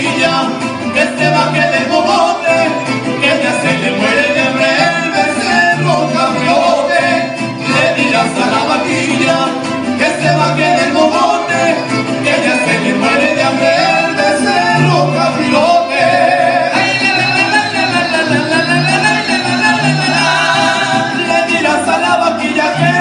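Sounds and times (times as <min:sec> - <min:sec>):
mariachi music: 0:00.0 - 0:23.0.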